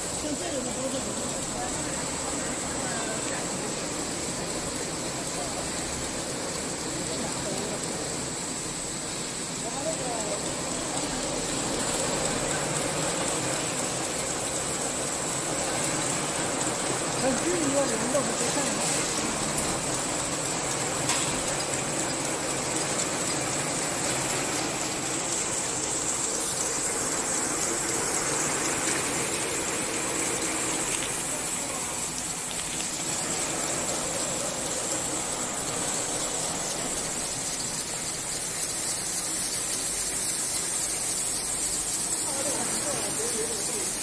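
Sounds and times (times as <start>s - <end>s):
machine mechanical hiss: 0.0s - 44.0s.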